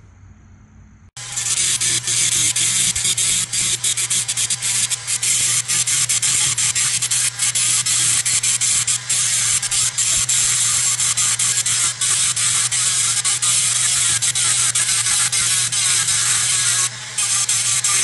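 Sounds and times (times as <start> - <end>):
steady low hum: 0.0 - 18.0
sanding steel scratchy hiss: 1.2 - 18.0.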